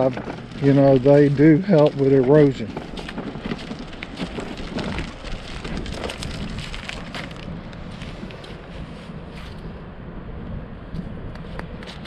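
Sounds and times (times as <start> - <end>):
footsteps crunching on shelly sand: 0.0 - 9.7
wind rumbling on microphone: 0.0 - 12.0.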